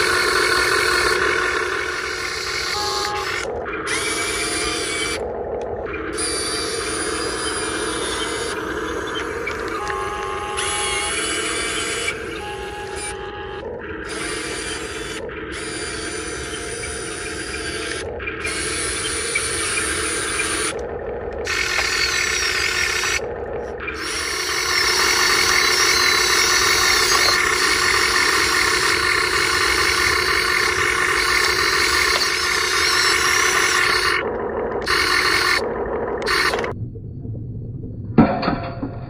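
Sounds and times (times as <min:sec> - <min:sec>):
electric motor whining: 0:00.0 - 0:36.8.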